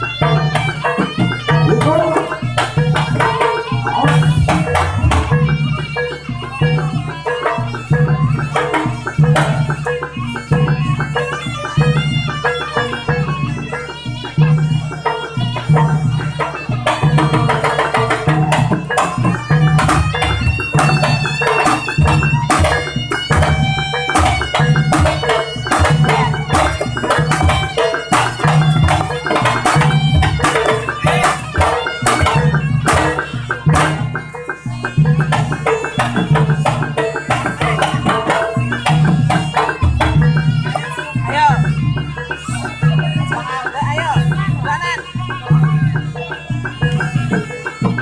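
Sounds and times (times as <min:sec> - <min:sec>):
hand drums beating fast: 0:00.0 - 0:48.0.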